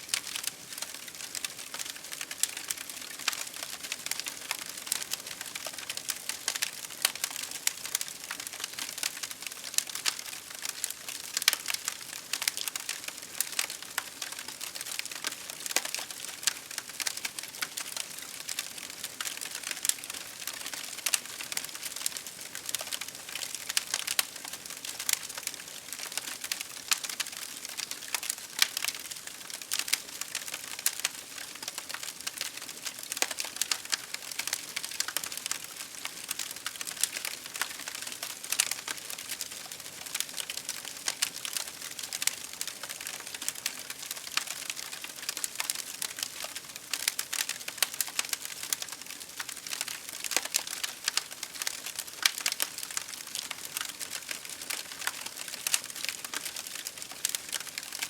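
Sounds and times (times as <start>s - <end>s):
constant hiss: 0.0s - 58.0s
campfire crackling: 0.1s - 58.0s.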